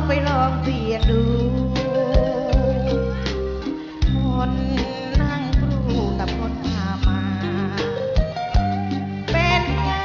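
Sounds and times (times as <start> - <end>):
woman singing: 0.0 - 3.2, 3.9 - 10.0
bass notes: 0.0 - 10.0
drum beats: 0.0 - 10.0.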